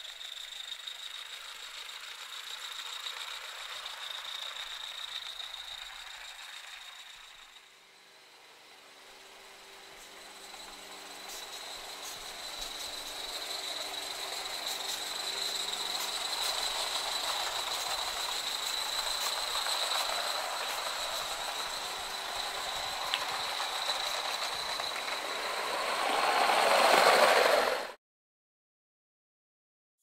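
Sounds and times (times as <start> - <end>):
wheels clicking over rail joints: 0.0 - 8.0, 8.8 - 28.0
model steam locomotive: 0.0 - 28.0.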